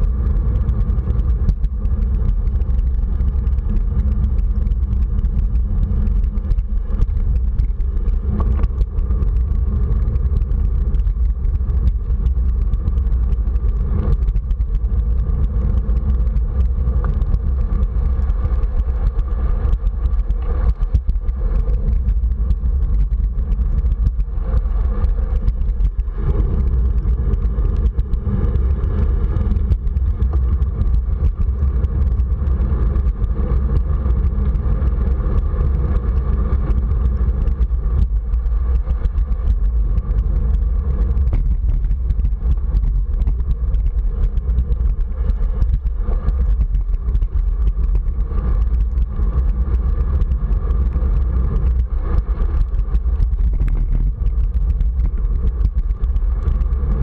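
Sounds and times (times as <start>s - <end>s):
wind rumble: 0.0s - 57.0s.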